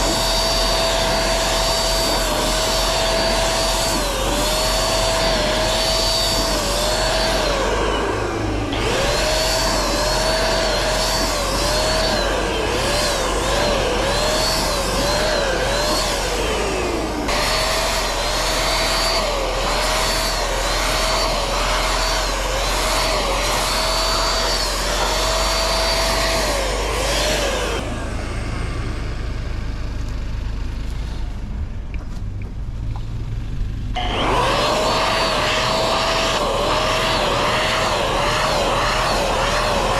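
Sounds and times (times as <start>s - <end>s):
paint sprayer motor whine: 0.0s - 31.3s, 32.9s - 39.9s.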